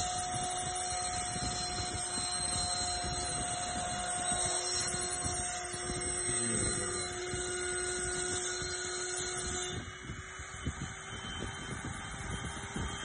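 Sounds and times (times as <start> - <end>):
rough cutting noise: 0.0 - 13.0
router spindle whine: 0.0 - 13.0.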